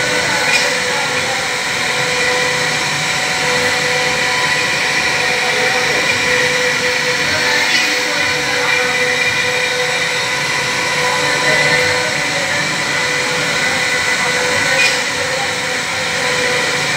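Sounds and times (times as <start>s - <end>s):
router spindle whine: 0.0s - 16.9s
wood cutting noise: 0.0s - 16.9s.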